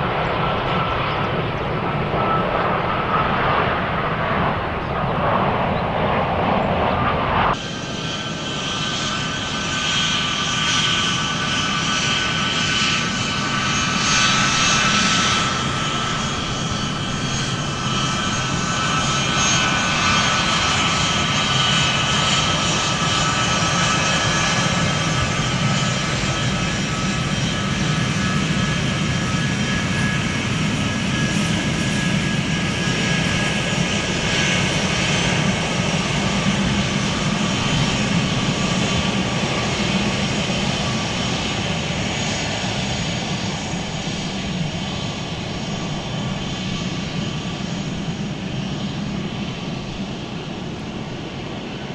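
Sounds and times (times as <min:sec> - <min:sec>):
airplane turbine engines: 0:00.0 - 0:51.9.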